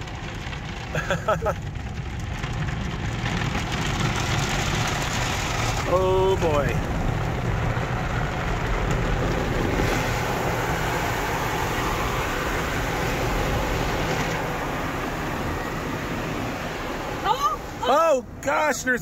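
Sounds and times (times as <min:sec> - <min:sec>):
car wash water spray hissing: 0:00.0 - 0:19.0.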